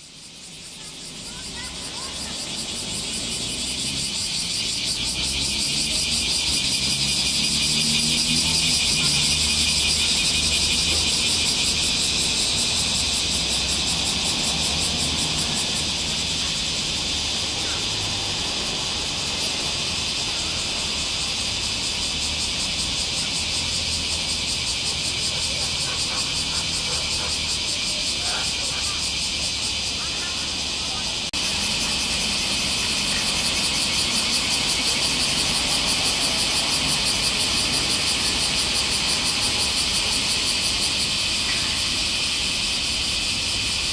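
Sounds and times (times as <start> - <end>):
cicada chorus: 0.0 - 43.9.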